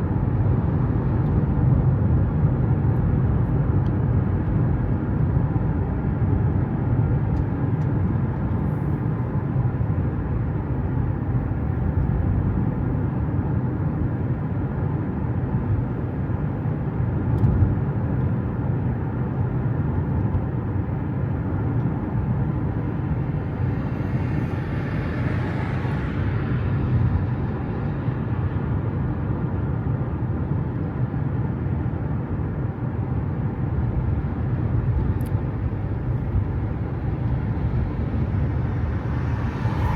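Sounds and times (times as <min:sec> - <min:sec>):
vehicle rumble: 0:00.0 - 0:39.9.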